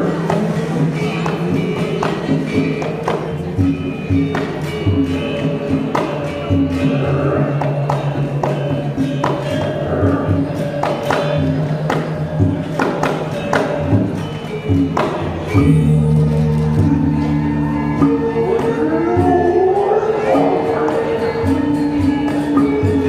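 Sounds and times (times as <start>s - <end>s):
gamelan music: 0.0s - 23.0s.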